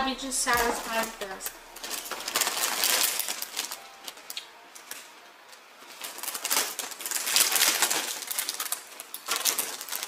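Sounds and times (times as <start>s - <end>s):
plastic chip bag crinkling: 0.1s - 10.0s.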